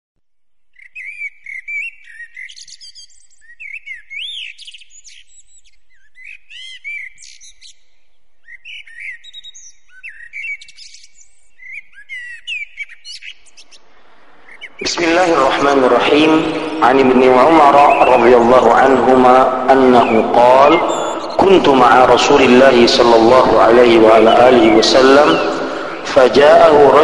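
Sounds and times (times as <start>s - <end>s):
songbirds singing: 0.5s - 27.0s.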